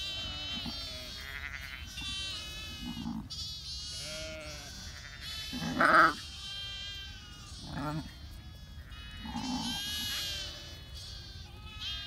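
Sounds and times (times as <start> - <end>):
lambs bleating: 0.0 - 12.0
sheep bleating: 0.0 - 12.0.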